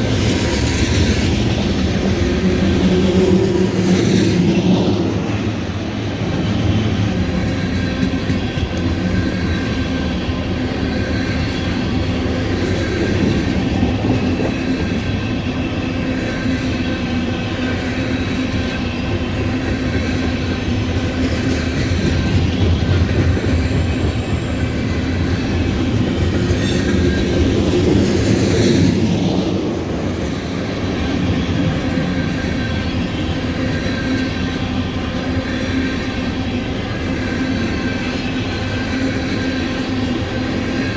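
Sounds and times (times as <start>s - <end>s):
steel wheels rumbling on rail: 0.0s - 40.9s.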